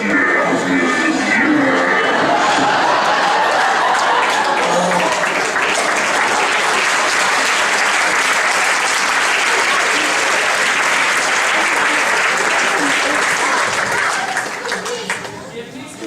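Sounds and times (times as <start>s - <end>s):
audience applauding: 0.2s - 15.5s.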